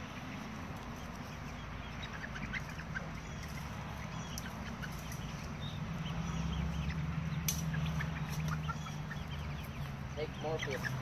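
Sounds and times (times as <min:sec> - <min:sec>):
chicks chirping: 0:00.0 - 0:11.0.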